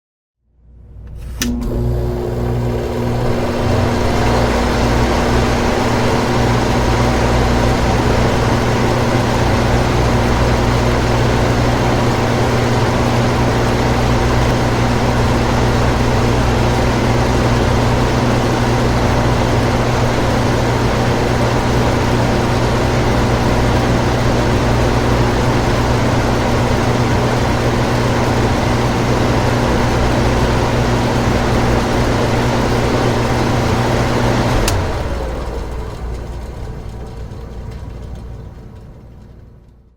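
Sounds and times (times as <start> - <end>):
low electrical hum: 0.5 - 39.9
air conditioner fan rushing: 0.8 - 39.9.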